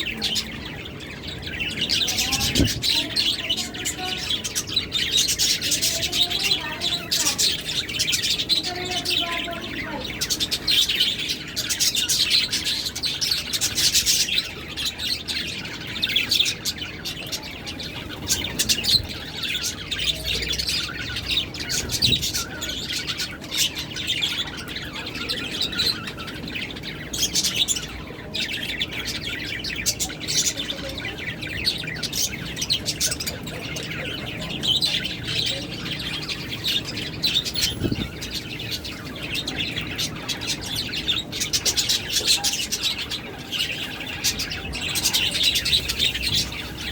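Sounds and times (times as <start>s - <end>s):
lovebirds chirping: 0.0s - 46.9s.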